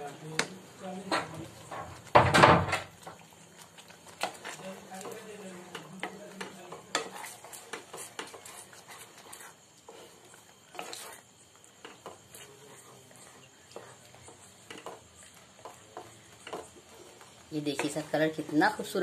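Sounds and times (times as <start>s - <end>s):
spatula scraping a pan: 0.0s - 2.2s, 3.0s - 19.0s.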